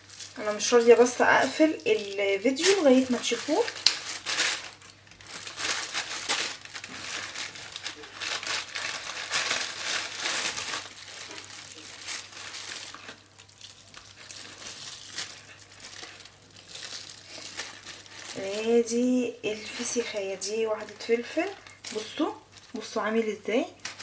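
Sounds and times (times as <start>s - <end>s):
plastic bags crinkling: 0.0s - 24.0s.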